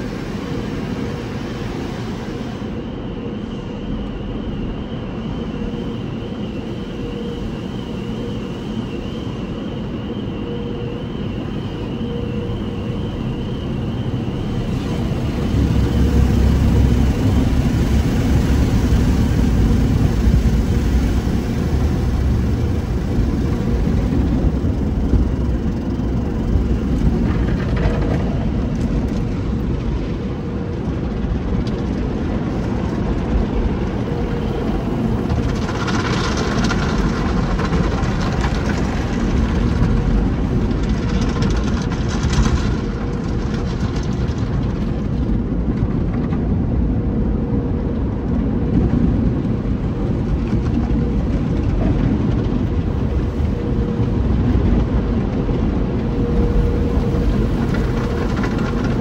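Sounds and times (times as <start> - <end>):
car wash machinery rumble: 0.0 - 59.0.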